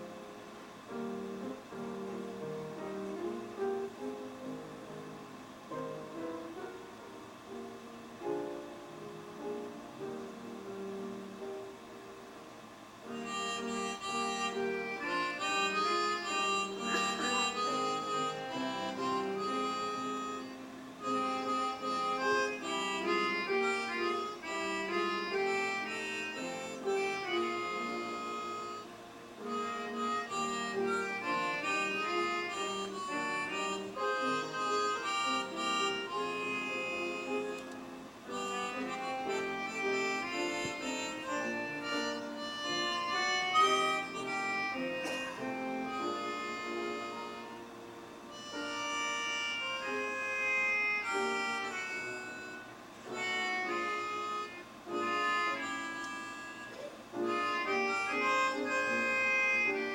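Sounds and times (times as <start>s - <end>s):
instrumental music: 0.0s - 59.9s.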